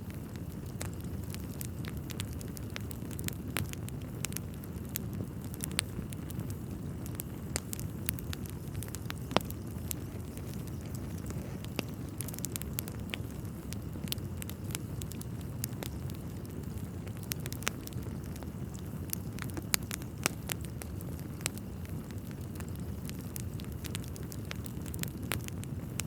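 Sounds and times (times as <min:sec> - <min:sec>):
logs crackling and popping: 0:00.0 - 0:26.0
wood fire flame rumble: 0:00.0 - 0:26.0.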